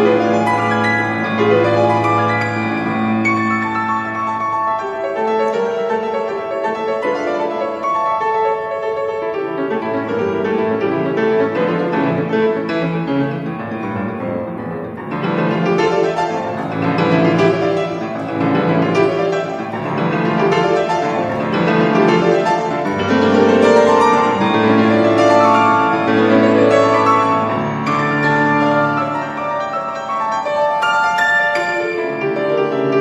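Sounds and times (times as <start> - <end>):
fast classical piano: 0.0 - 33.0.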